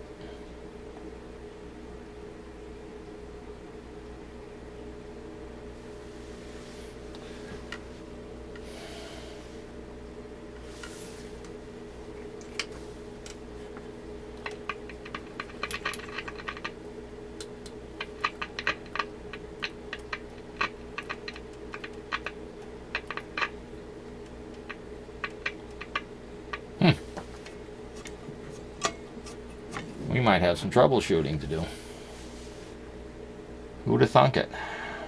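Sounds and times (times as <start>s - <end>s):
mains hum: 0.0s - 35.0s.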